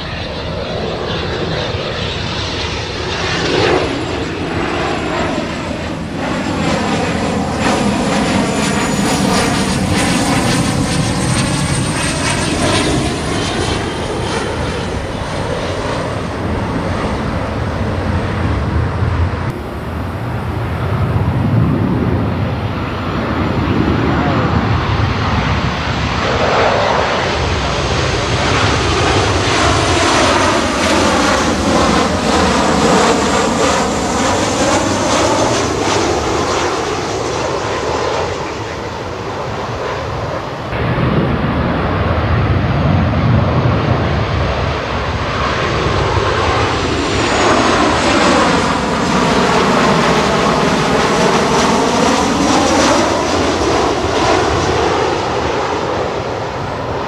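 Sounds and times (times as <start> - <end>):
jet airliner flyover: 0.0 - 57.0.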